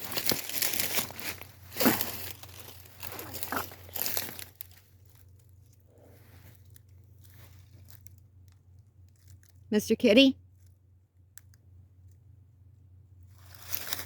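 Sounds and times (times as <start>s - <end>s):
crackly rustling and crunching: 0.0s - 9.7s, 10.4s - 12.3s, 13.2s - 14.0s.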